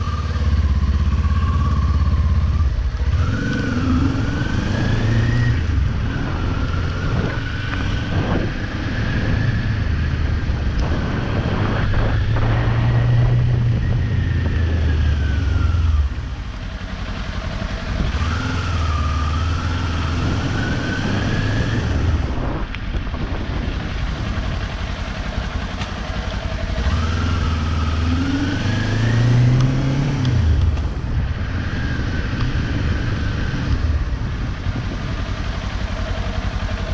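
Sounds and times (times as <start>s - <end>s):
motorcycle engine revving: 0.0s - 36.9s
wind and road noise: 0.0s - 36.9s.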